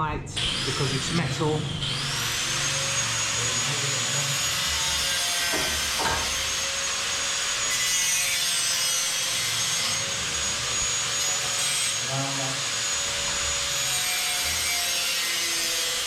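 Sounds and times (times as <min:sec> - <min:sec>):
power tool grinding metal: 0:00.4 - 0:16.0.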